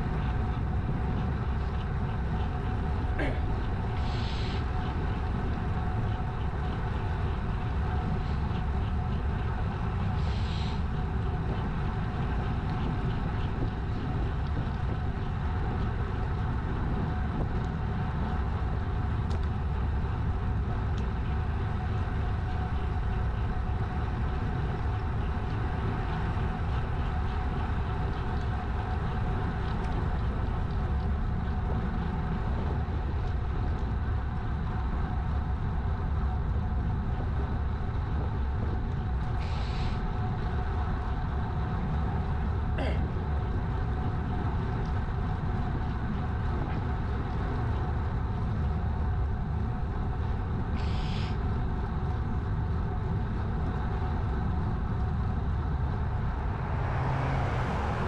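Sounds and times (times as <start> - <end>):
bicycle tyres rolling on asphalt: 0.0 - 58.0
wind buffeting microphone: 0.0 - 58.0.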